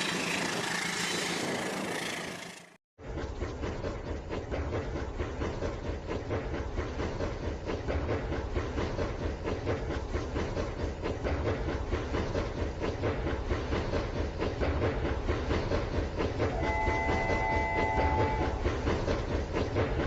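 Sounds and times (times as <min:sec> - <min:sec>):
wheels clicking on rails: 0:00.0 - 0:20.0.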